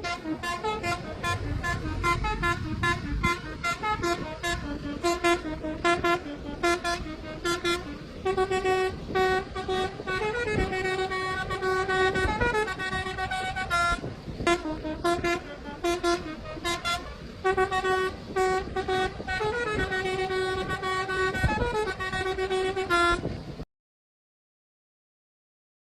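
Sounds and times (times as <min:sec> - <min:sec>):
musical horn toots: 0:00.0 - 0:23.3.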